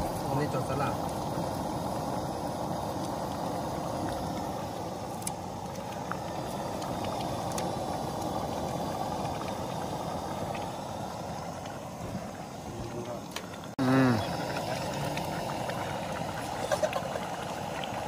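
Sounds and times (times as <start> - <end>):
camp stove burner roar: 0.0 - 18.0.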